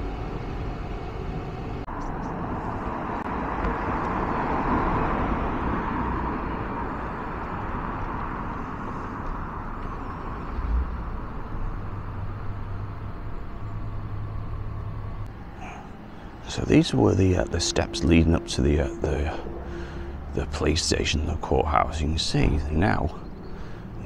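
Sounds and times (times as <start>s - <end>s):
low traffic rumble: 0.0s - 24.0s
vehicle passing: 1.4s - 24.0s.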